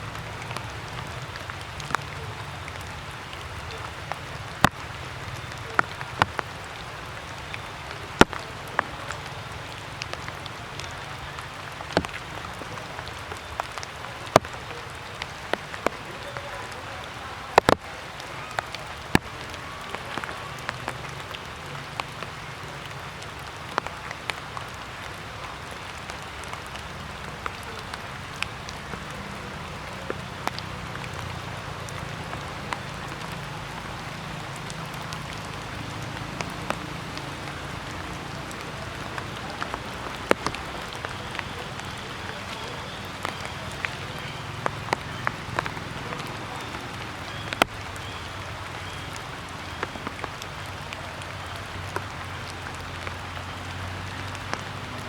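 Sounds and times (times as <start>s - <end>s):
water drops on leaves: 0.0s - 55.0s.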